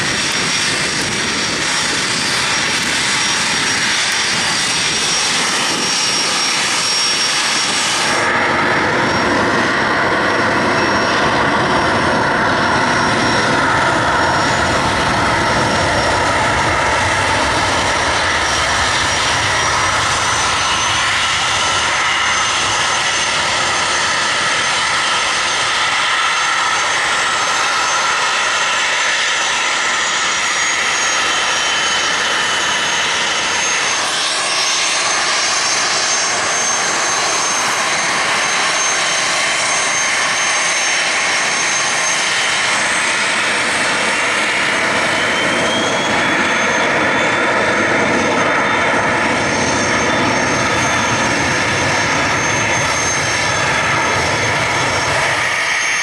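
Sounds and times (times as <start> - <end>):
jet engines at takeoff thrust: 0.0 - 56.0
jet engines whining: 0.0 - 56.0.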